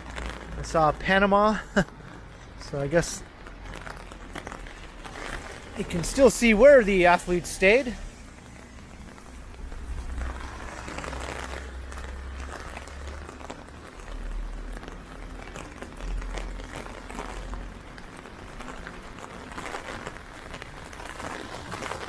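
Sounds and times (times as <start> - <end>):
rain pattering on an umbrella: 0.0 - 22.0
wind rumbling on microphone: 1.8 - 22.0.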